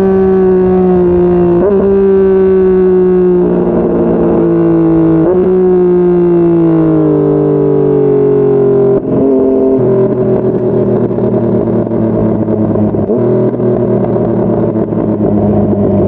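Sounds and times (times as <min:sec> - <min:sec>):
exhaust crackle: 0:00.0 - 0:16.0
motorcycle engine running: 0:00.0 - 0:16.0.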